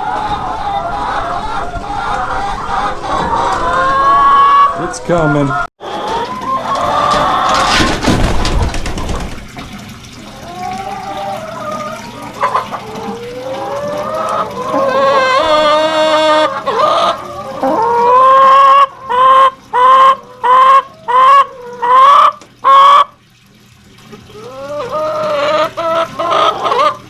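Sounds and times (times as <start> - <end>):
chickens calling: 0.0 - 23.2, 24.0 - 27.0.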